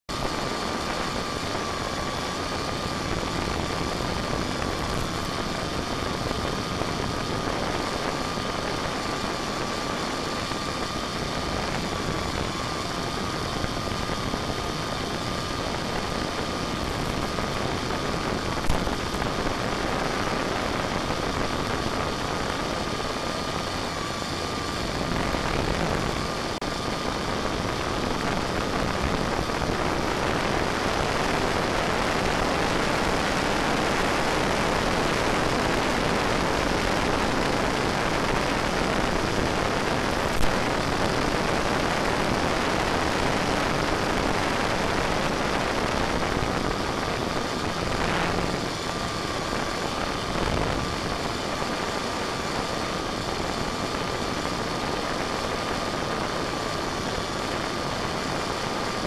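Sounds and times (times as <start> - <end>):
model airplane motor whine: 0.1 - 59.0.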